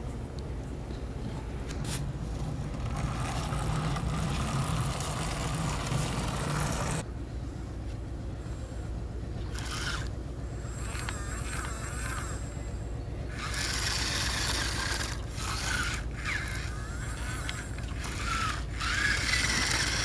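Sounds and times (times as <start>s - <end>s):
small motor humming and hissing: 1.6s - 20.0s.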